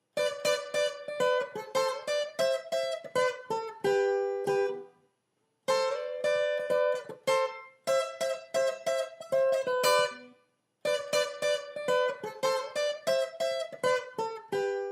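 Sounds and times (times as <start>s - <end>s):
plucked guitar music: 0.2s - 5.0s, 5.7s - 14.9s.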